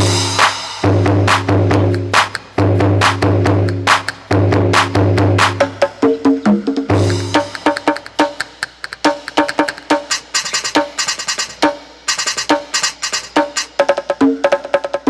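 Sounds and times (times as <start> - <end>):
electronic drum pads struck: 0.0 - 14.1.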